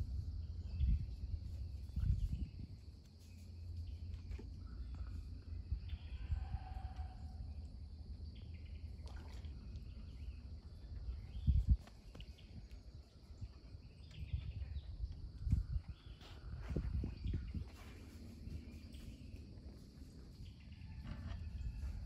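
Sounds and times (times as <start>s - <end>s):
insect drone: 0.0s - 22.0s
wind rumbling on microphone: 0.0s - 22.0s.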